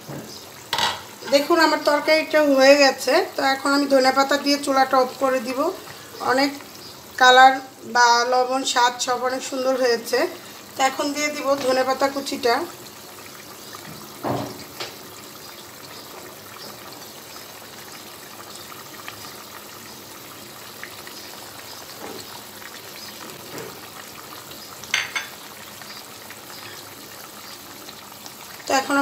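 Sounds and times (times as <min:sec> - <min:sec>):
curry bubbling and sizzling: 0:00.0 - 0:29.0.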